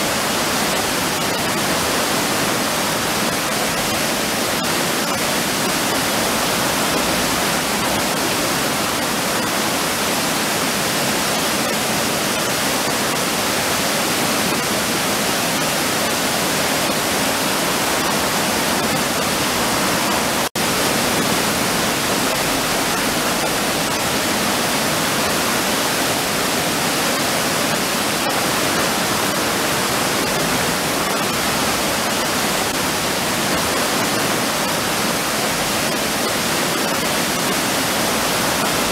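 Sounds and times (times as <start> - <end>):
water rushing over a weir: 0.0 - 38.9.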